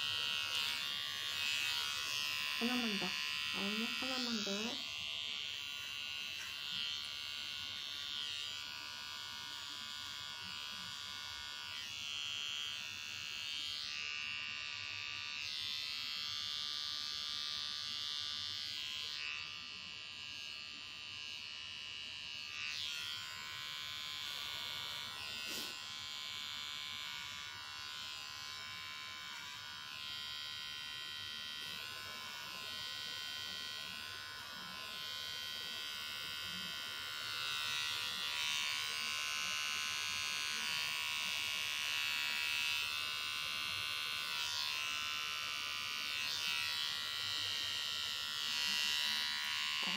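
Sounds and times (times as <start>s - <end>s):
electric pet hair trimmer buzzing: 0.0s - 49.9s.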